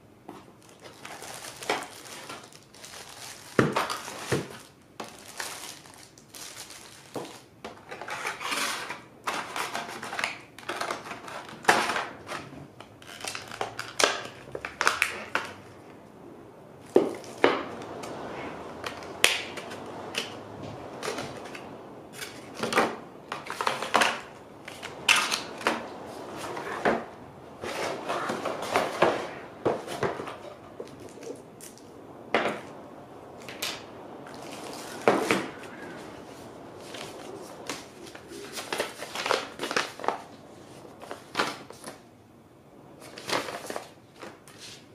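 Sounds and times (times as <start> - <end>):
plastic bags crinkling: 0.5 - 15.9, 16.8 - 42.0.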